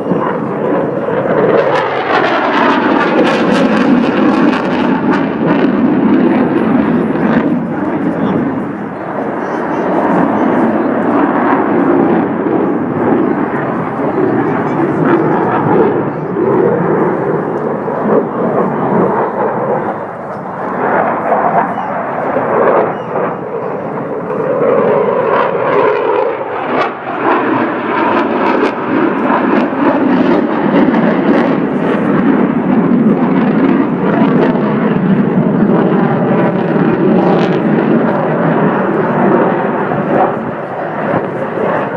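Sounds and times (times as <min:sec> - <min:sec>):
aircraft engine: 0:00.0 - 0:41.9.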